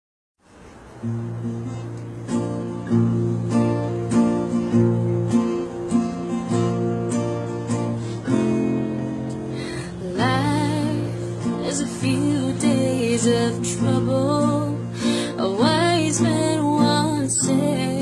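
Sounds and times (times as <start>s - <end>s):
acoustic guitar strumming chords: 0.5s - 18.0s.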